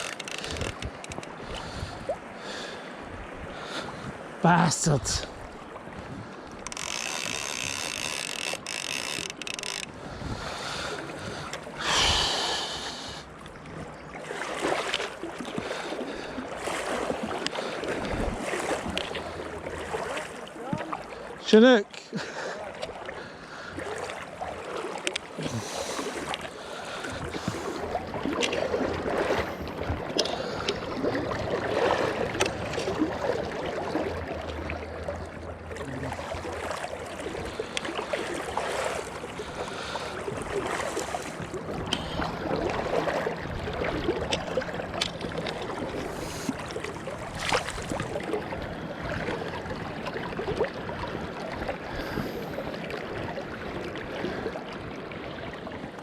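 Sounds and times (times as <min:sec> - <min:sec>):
water rushing and splashing: 0:00.0 - 0:56.0.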